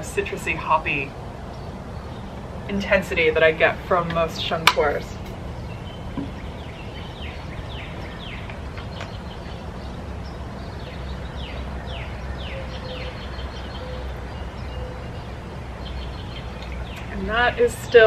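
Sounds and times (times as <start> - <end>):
bird chirping: 0.0 - 18.0
steady low rumble: 0.0 - 18.0.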